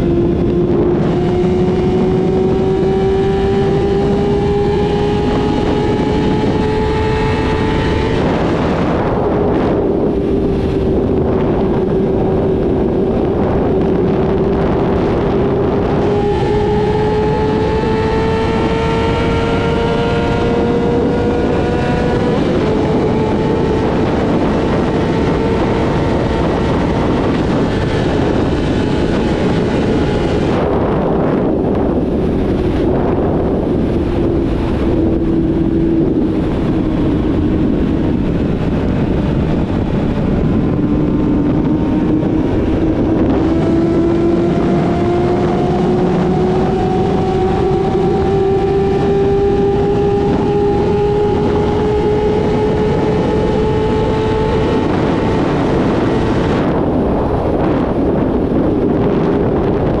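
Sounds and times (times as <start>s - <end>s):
motorcycle engine running: 0.0s - 60.0s
wind noise on microphone: 0.0s - 60.0s.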